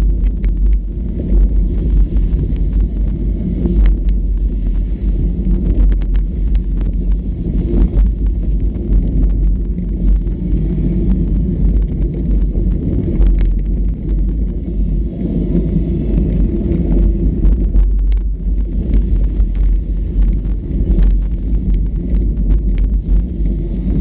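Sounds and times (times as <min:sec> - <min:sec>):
vehicle rumbling: 0:00.0 - 0:24.0.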